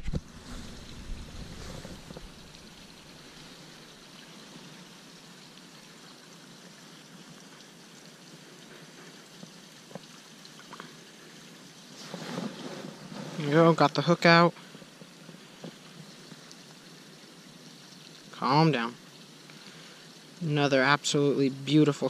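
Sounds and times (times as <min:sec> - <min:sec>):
creek trickling: 0:00.0 - 0:22.0.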